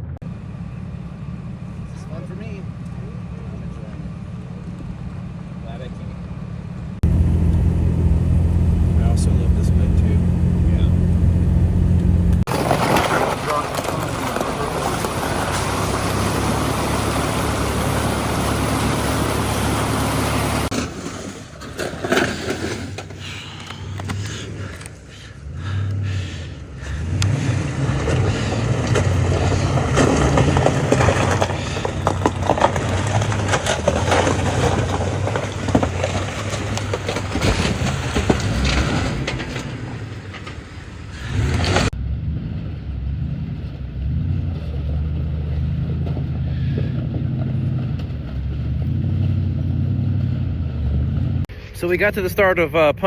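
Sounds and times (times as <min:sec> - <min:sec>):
tyres crunching over trail: 0:00.0 - 0:52.9
truck engine running: 0:00.0 - 0:53.0.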